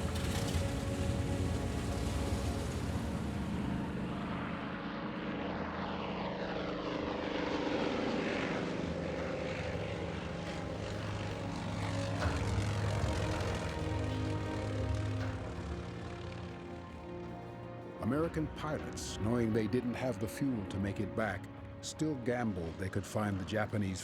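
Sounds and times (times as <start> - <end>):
falling whines of diving planes: 0.0 - 24.0
propeller aircraft engines droning: 0.0 - 24.0.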